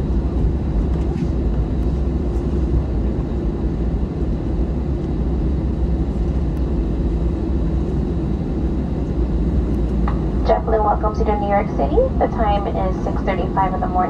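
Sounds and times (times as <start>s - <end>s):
jet airliner cabin rumble: 0.0s - 14.0s.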